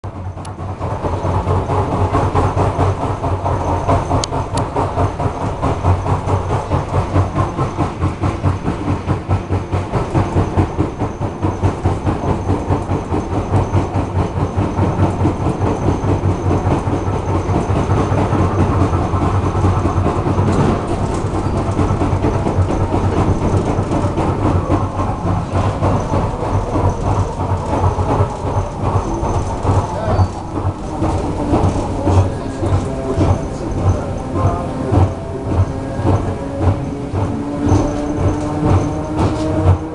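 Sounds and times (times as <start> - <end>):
train bogie knocking: 0.0 - 39.9
train rolling noise: 0.0 - 39.9.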